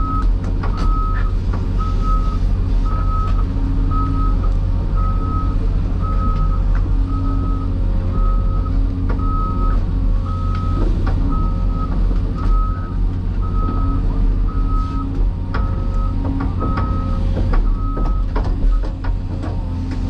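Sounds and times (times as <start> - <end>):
backup alarm beeping: 0.0 - 18.8
heavy diesel machinery rumbling: 0.0 - 20.0.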